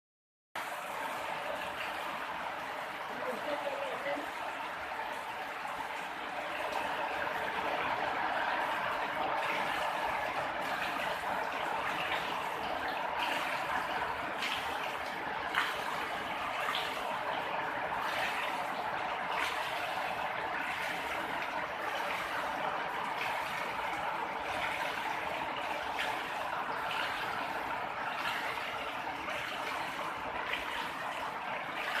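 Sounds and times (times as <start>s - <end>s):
heavy rain falling: 0.6s - 32.0s
sharp drips and splashes: 0.6s - 32.0s.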